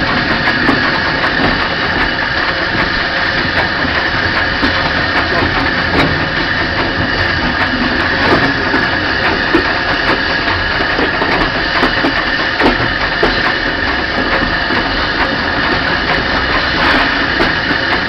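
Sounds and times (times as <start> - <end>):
constant steam hiss: 0.0 - 18.0
train running rumble and rattle: 0.0 - 18.0.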